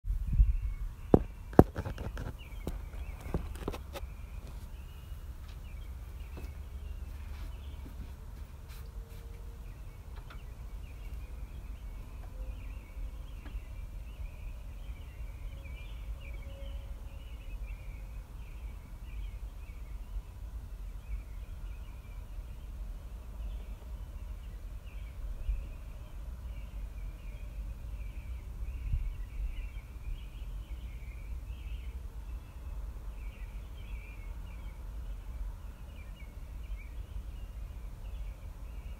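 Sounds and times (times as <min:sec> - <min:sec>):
birds chirping: 0:00.1 - 0:38.9
low steady rumble: 0:00.1 - 0:38.9.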